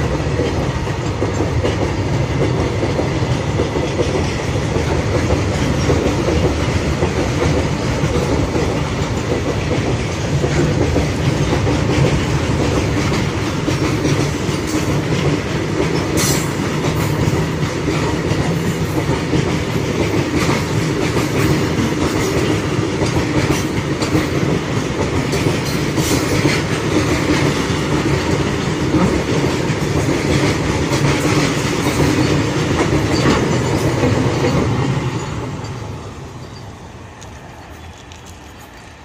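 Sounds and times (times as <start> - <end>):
train wheels clattering over rail joints: 0.0 - 39.0.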